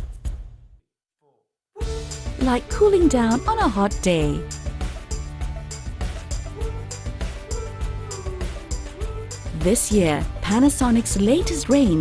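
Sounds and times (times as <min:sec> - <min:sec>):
background music with steady beat: 0:00.0 - 0:00.8, 0:01.8 - 0:12.0.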